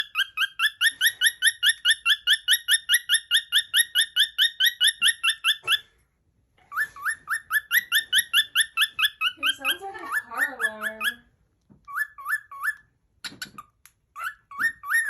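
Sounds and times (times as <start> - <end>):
cockatiel whistling chirps: 0.0 - 5.9, 6.6 - 11.2, 11.8 - 15.0.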